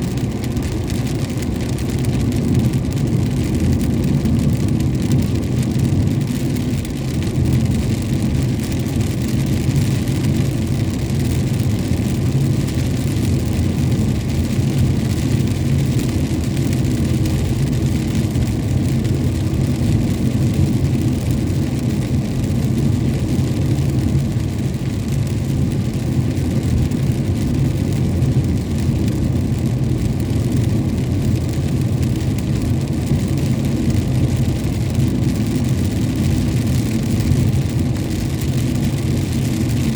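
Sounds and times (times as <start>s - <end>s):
rain hissing on wet road: 0.0s - 39.9s
vehicle engine and road rumble: 0.0s - 39.9s.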